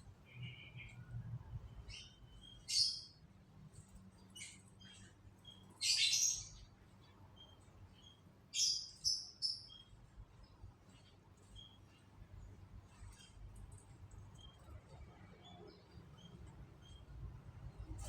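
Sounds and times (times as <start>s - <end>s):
canaries chirping: 0.2s - 18.0s.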